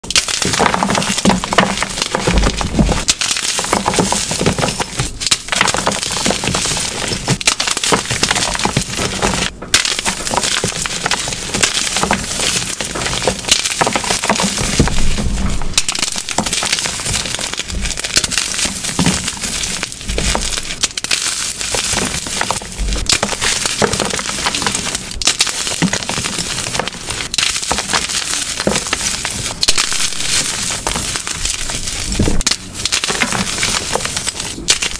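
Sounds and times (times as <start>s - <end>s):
chalk crunching and cracking: 0.0s - 34.9s.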